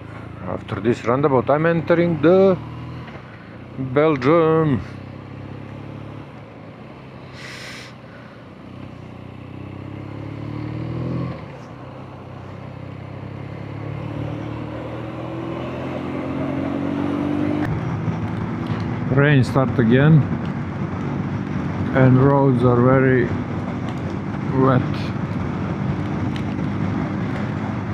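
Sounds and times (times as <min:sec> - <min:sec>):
motorcycle engine accelerating: 0:01.1 - 0:27.9.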